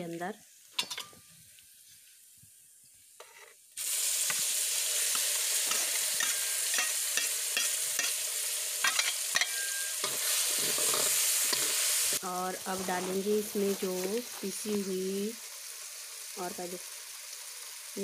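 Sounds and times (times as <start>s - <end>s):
paste sizzling in hot oil: 3.0s - 18.0s.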